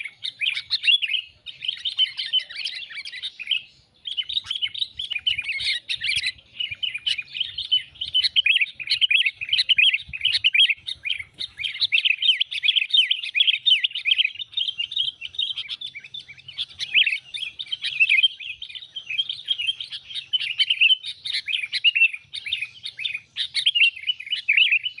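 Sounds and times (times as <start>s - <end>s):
bulbul rapid chattering chirps: 0.0s - 25.0s.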